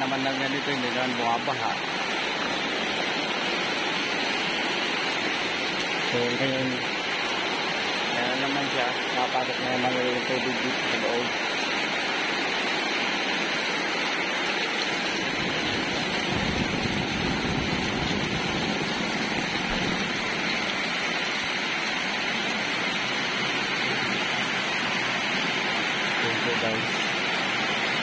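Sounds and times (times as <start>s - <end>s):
heavy rain on flooded ground: 0.0s - 28.0s.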